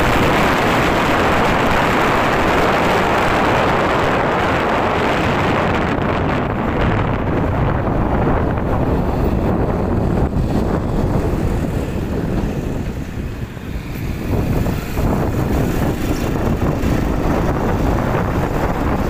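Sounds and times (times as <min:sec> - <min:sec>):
low rumble of vehicle ride: 0:00.0 - 0:19.0
wind rushing over microphone: 0:00.0 - 0:19.0.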